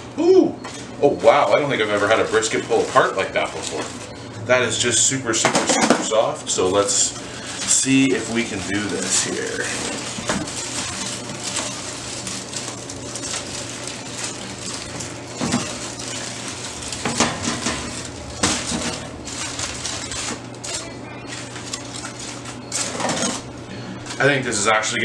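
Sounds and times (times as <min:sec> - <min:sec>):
aluminium foil crinkling: 0:01.0 - 0:04.2, 0:06.1 - 0:24.3.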